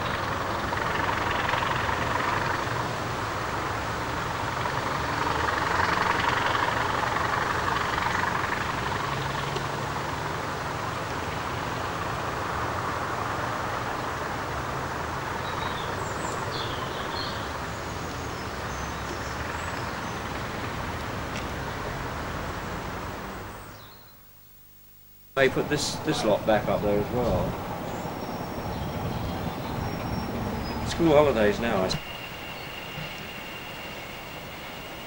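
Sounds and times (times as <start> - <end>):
diesel locomotive engine running: 0.0 - 23.7, 25.4 - 35.0.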